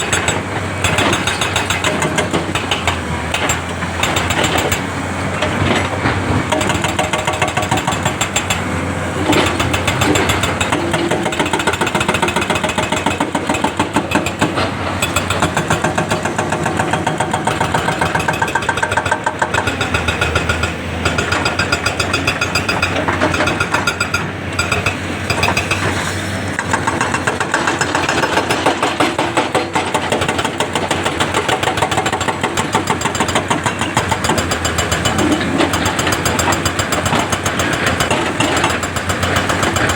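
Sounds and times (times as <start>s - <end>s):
diesel engine rattling: 0.0s - 39.9s.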